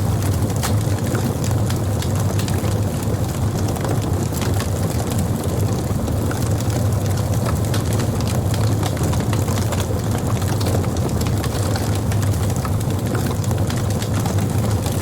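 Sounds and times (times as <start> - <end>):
campfire crackling: 0.0 - 15.0
fire low rumble: 0.0 - 15.0.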